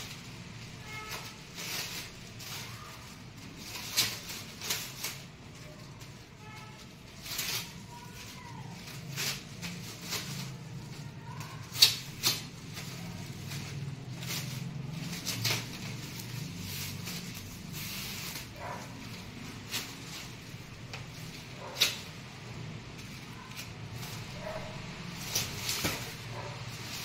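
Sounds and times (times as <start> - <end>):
plastic film crinkling and tearing: 0.0 - 27.0.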